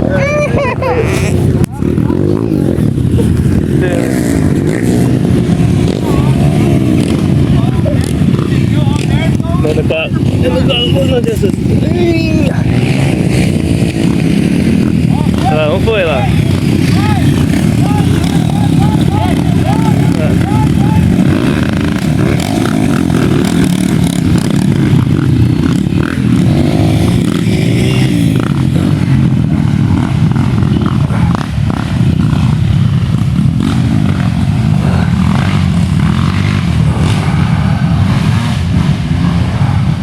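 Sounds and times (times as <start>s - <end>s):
motorcycle engines running: 0.0s - 40.0s.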